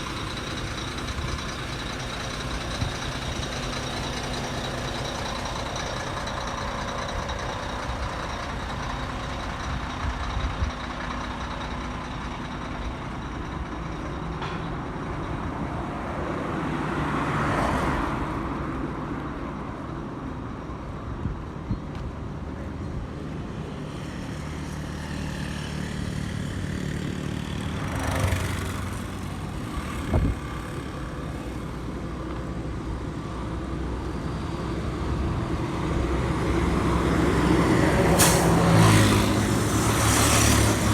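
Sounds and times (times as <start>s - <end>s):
road traffic engine noise: 0.0s - 40.9s.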